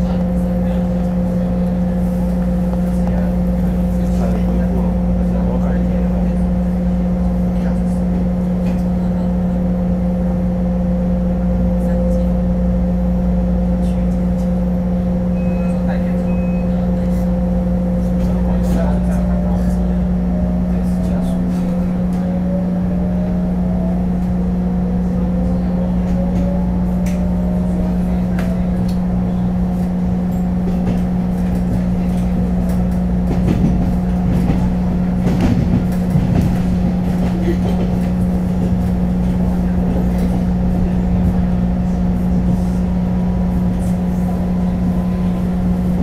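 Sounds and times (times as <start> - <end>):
train interior hum and rumble: 0.0 - 46.0.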